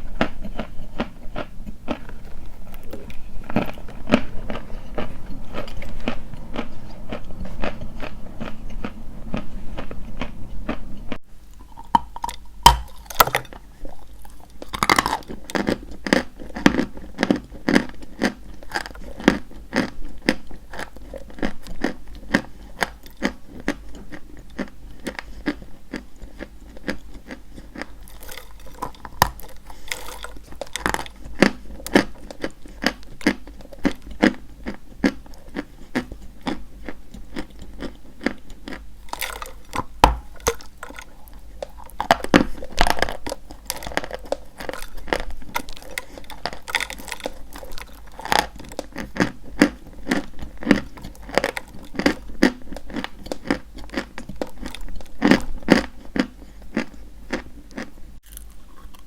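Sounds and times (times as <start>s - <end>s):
chewing crunchy chalk: 0.0s - 59.0s.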